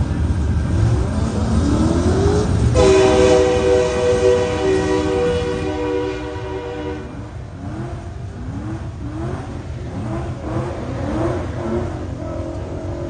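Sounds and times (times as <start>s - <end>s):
engine revving: 0.6s - 13.0s.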